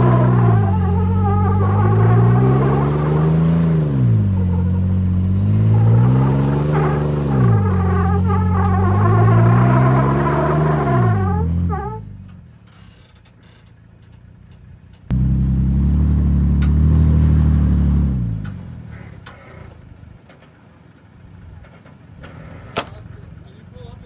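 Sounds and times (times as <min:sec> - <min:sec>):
off-road vehicle engine revving: 0:00.0 - 0:13.4, 0:14.3 - 0:24.0.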